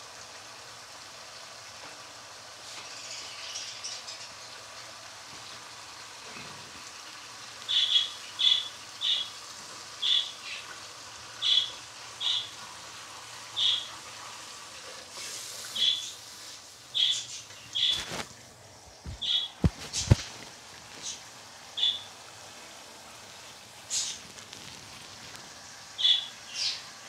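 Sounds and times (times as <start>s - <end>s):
gravy sizzling in a pan: 0.0s - 27.0s.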